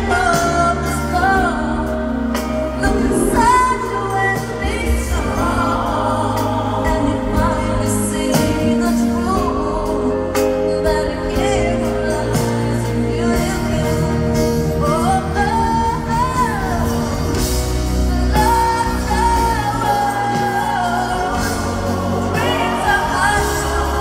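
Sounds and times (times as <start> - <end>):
backing singers: 0.0 - 24.0
bass guitar: 0.0 - 24.0
keyboard: 0.0 - 24.0
woman singing pop ballad: 0.0 - 24.0.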